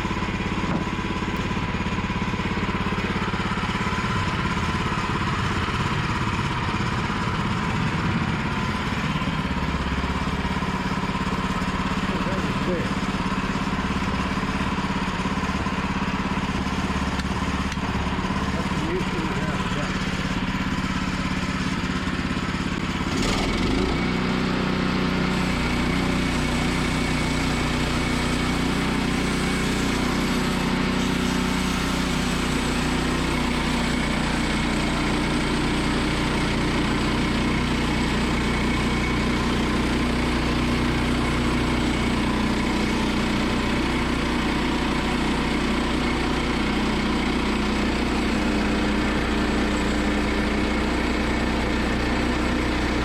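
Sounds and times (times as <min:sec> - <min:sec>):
sawmill engine sawing a log: 0:00.0 - 0:53.0.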